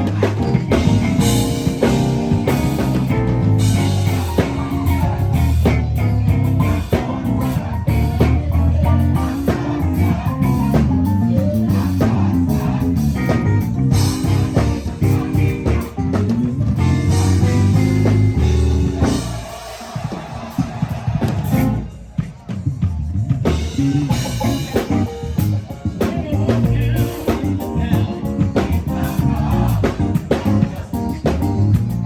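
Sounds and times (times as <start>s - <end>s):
bass line: 0.0s - 32.0s
drum kit: 0.0s - 32.0s
guitar: 0.0s - 32.0s.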